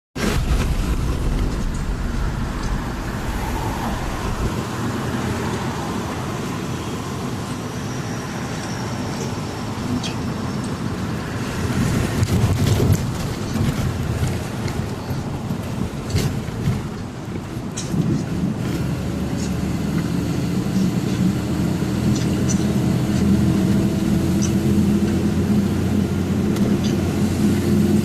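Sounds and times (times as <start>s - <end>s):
truck engine and road noise: 0.2s - 28.0s.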